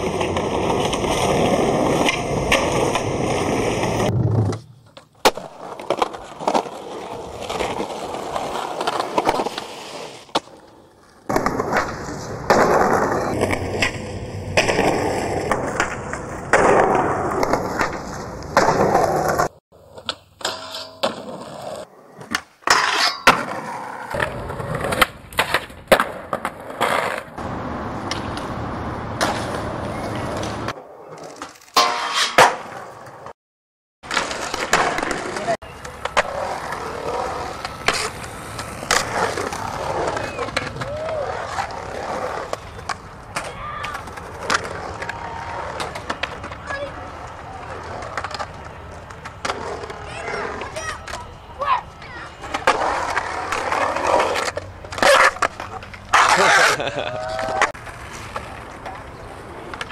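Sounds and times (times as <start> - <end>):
skateboard popping and landing: 0.0 - 33.3, 34.0 - 51.3, 52.4 - 59.9
skateboard wheels rolling: 0.0 - 33.3, 34.0 - 59.9.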